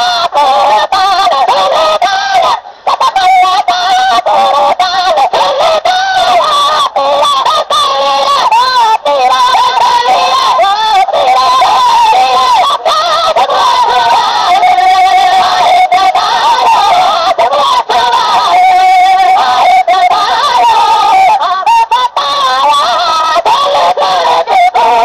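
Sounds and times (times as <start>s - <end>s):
voices singing devotional melody: 0.0s - 25.0s.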